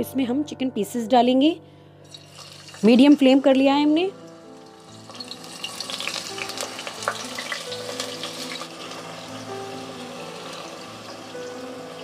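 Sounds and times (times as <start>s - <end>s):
chicken sizzling in hot oil: 2.1s - 12.0s.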